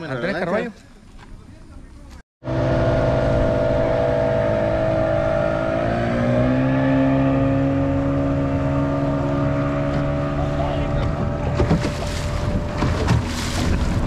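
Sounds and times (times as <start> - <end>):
outboard motor running: 2.4 - 14.0.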